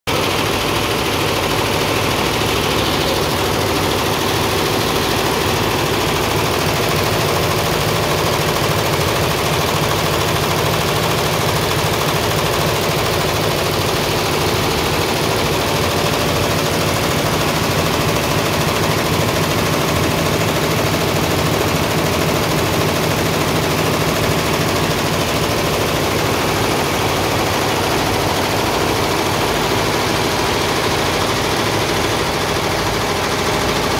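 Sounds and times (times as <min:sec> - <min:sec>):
machine clattering: 0:00.1 - 0:33.9.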